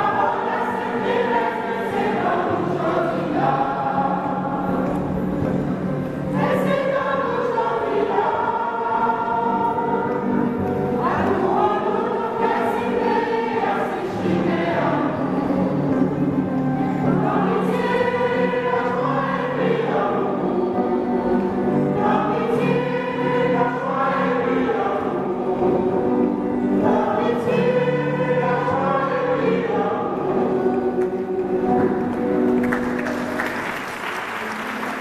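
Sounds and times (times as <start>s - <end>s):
mixed choir singing: 0.0s - 35.0s.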